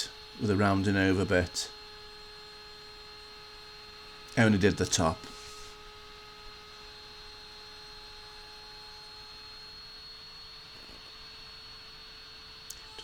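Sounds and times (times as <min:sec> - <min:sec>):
faint electrical hum: 0:00.0 - 0:13.0
thin high whine: 0:00.0 - 0:13.0.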